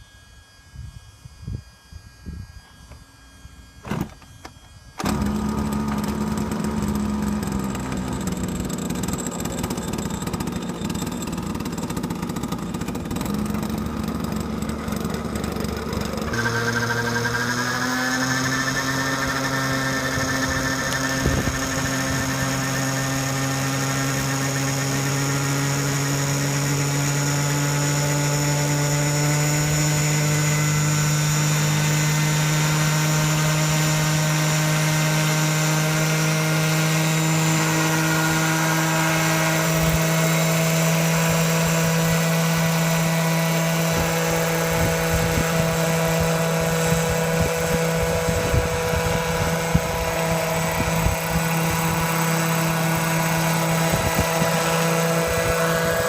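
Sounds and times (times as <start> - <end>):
model helicopter engine running: 0.0 - 56.0.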